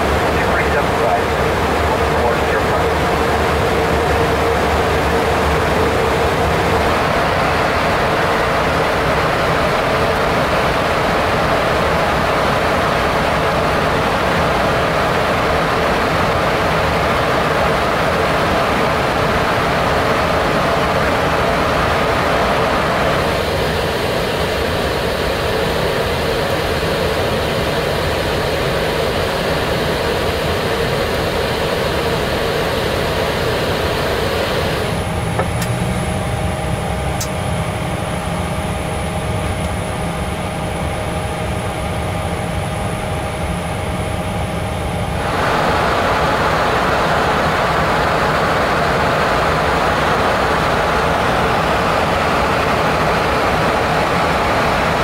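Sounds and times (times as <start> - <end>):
cockpit ventilation fans rushing: 0.0 - 55.0.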